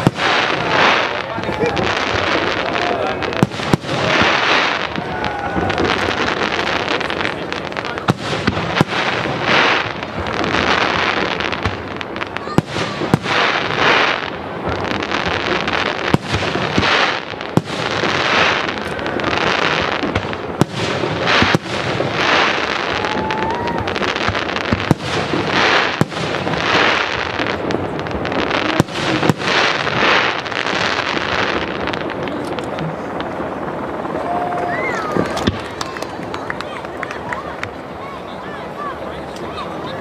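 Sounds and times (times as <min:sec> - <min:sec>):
firework shells bursting: 0:00.0 - 0:37.0.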